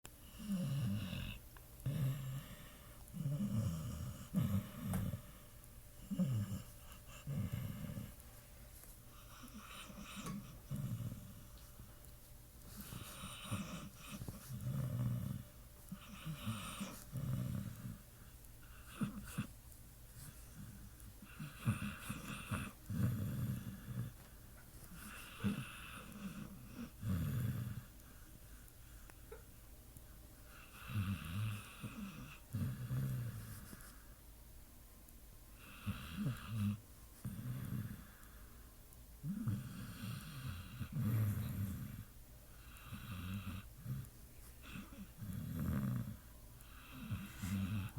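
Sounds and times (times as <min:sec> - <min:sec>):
dog snoring: 0:00.2 - 0:08.2, 0:09.1 - 0:11.7, 0:12.7 - 0:19.6, 0:20.2 - 0:24.3, 0:24.9 - 0:28.0, 0:30.5 - 0:34.0, 0:35.6 - 0:38.4, 0:39.2 - 0:47.9.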